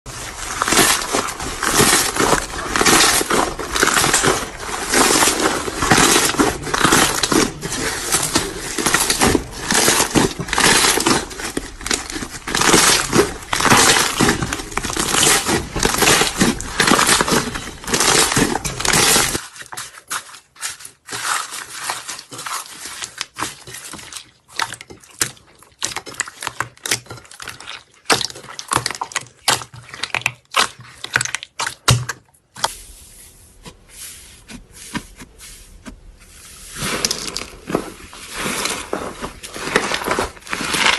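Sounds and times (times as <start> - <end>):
close crunching and crackling: 0.1 - 32.0, 33.6 - 40.9.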